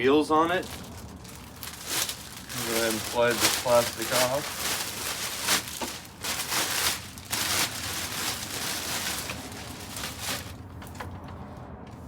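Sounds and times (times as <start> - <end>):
plastic wrapping crinkling: 0.4 - 11.1.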